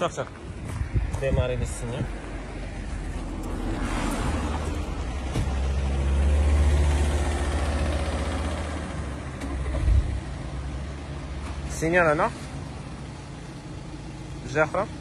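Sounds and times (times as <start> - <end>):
diesel engine idling: 1.6 - 15.0.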